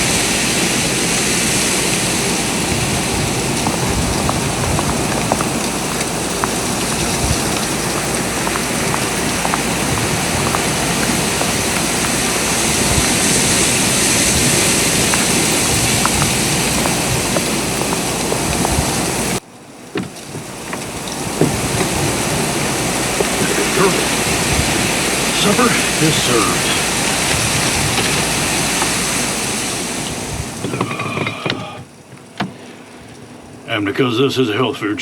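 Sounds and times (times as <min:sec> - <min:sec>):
small ticks: 0:00.0 - 0:31.3
blizzard wind blowing: 0:00.0 - 0:35.0.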